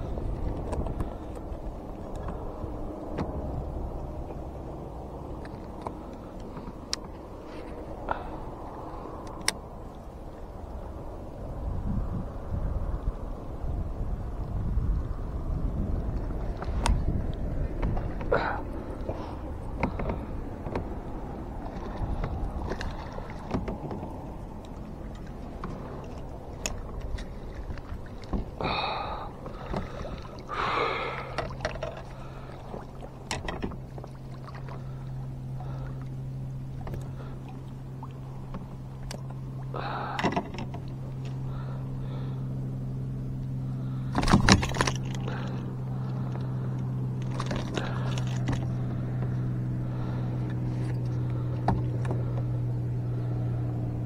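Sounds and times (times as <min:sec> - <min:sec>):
boat motor humming: 0:00.0 - 0:54.0.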